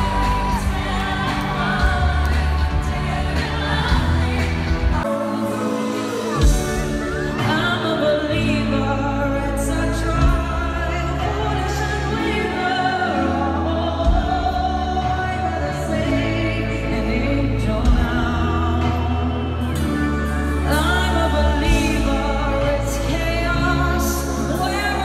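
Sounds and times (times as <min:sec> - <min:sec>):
person singing: 0:00.0 - 0:25.0.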